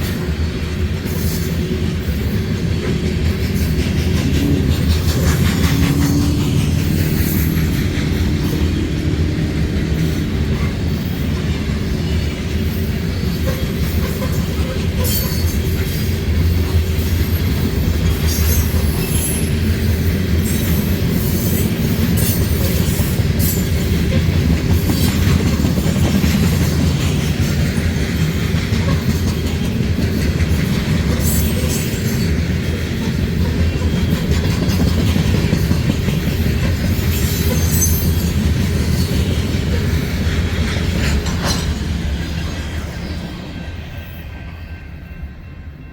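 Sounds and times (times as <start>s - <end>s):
wheels clicking over rail joints: 0.0s - 42.8s
train wheels rumbling on rail: 0.0s - 45.9s.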